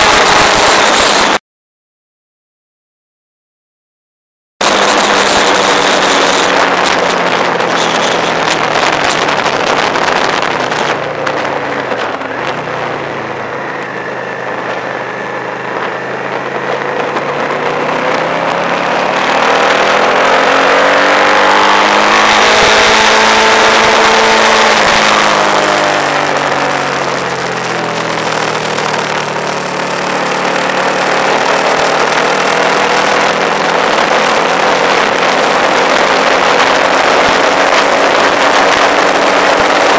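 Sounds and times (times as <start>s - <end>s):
road and wind noise: 0.0s - 1.4s, 4.6s - 39.9s
vehicle engine running: 4.6s - 39.9s.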